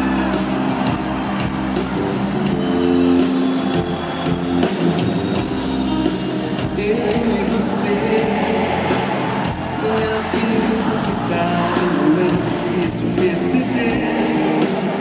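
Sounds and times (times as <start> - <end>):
guitar: 0.0 - 15.0
live band playing: 0.0 - 15.0.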